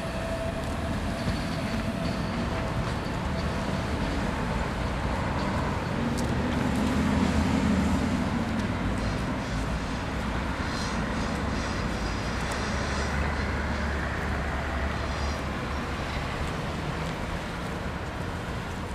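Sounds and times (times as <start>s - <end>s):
bus engine hum: 0.0s - 18.9s
vehicles rumbling over tracks: 0.0s - 18.9s.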